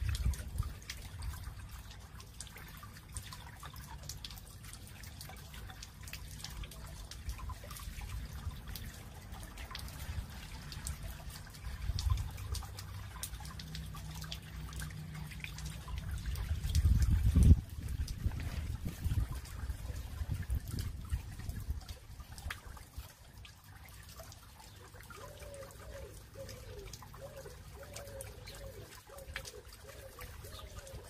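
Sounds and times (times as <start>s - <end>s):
fountain water trickling over stones: 0.0s - 31.0s.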